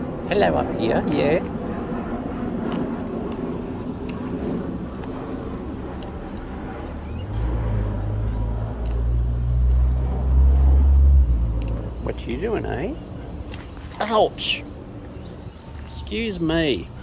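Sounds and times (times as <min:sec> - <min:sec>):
aeroplane drone: 0:00.0 - 0:17.0.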